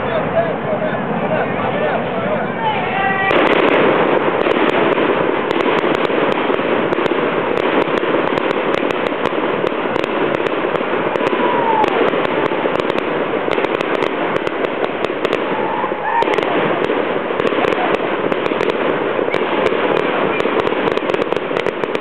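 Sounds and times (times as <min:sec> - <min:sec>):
fireworks crackling and cracking: 0:00.0 - 0:22.0.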